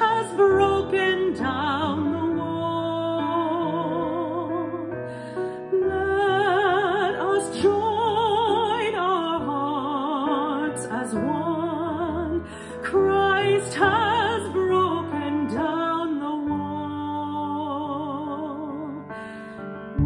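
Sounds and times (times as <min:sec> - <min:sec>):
soprano singing a hymn: 0:00.0 - 0:19.4.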